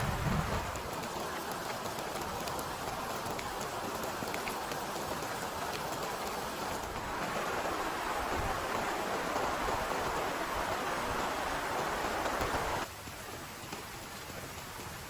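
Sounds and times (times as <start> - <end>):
heavy rain falling: 0.0 - 15.0
drops ticking: 0.3 - 15.0.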